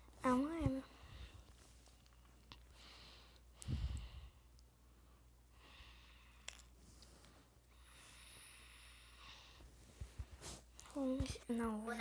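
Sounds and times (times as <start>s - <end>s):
soft breaths: 0.0s - 12.0s.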